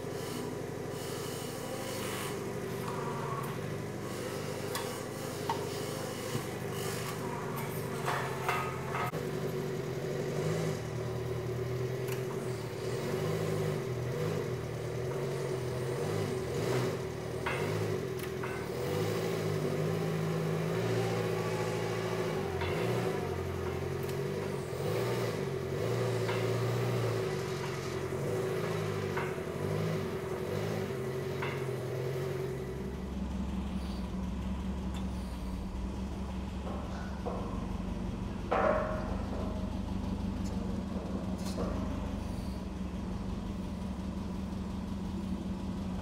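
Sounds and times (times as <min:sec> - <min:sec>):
engine running under changing load: 0:00.0 - 0:46.0
metal clanks: 0:02.2 - 0:10.0, 0:10.8 - 0:46.0.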